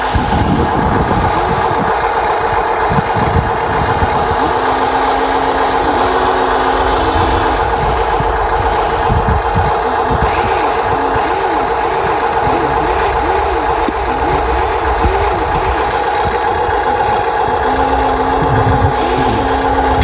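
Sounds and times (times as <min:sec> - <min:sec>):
toy motor whine and rumble: 0:00.0 - 0:20.0
second motor tone shifting pitch: 0:03.6 - 0:20.0.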